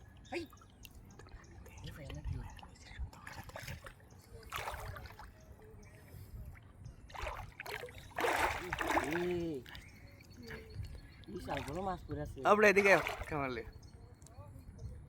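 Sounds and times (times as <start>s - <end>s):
water splashing and sloshing: 0.0s - 13.7s.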